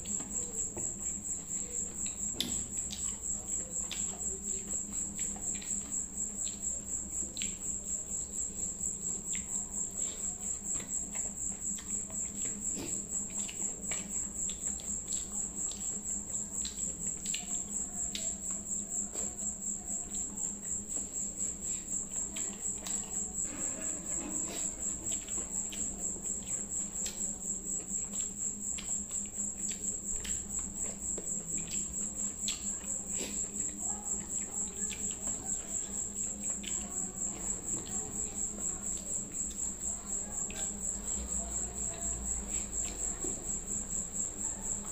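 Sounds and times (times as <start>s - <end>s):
cricket chirping trill: 0.0s - 44.9s
wet clicks of mixing and chewing: 0.0s - 44.9s.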